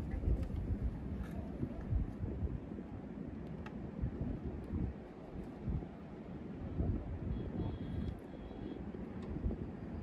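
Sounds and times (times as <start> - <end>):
wind buffeting microphone: 0.0 - 3.1, 3.8 - 8.2, 9.3 - 10.0.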